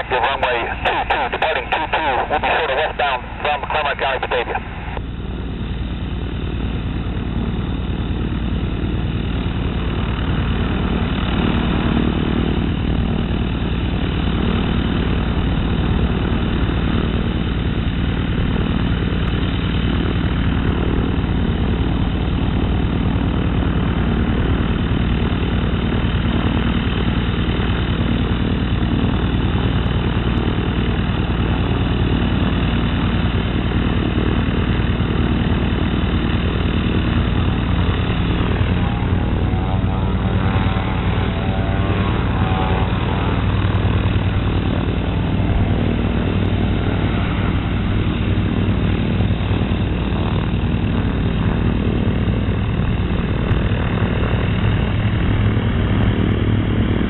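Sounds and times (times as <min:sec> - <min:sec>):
turboprop engine running: 0:00.0 - 0:57.0.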